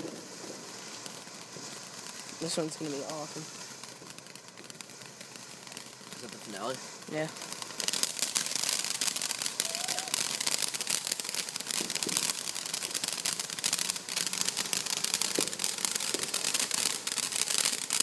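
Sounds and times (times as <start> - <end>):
firework fountain crackling: 0.0 - 18.0.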